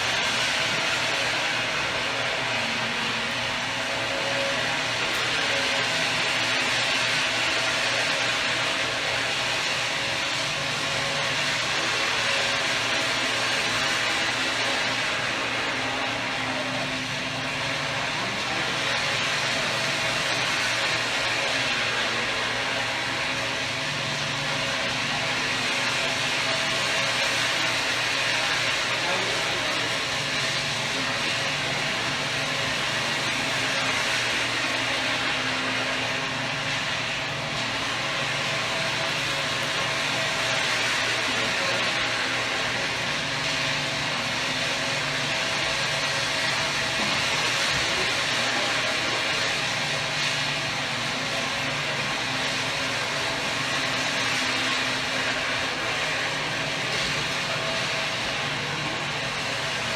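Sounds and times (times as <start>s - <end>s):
dense wall of hiss: 0.0s - 59.9s.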